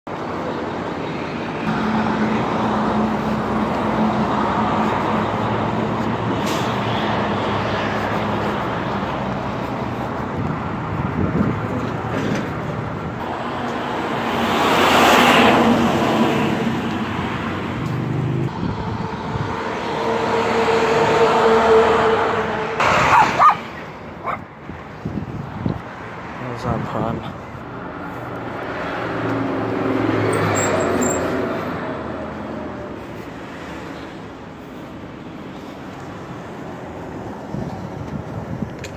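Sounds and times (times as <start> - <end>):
traffic driving past: 0.1 - 38.9.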